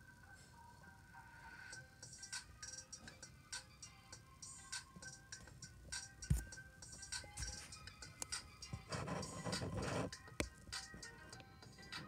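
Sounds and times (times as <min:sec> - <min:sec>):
faint music with percussion ticks: 0:00.0 - 0:12.0.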